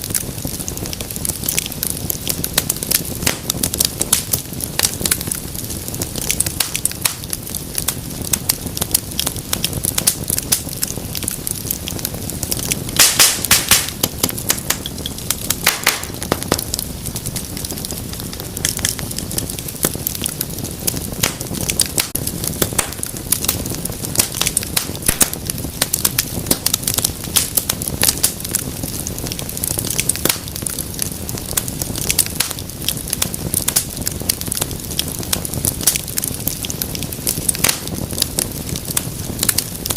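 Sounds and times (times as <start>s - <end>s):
loud pops from fire: 0.0s - 39.9s
wood fire crackling: 0.0s - 39.9s.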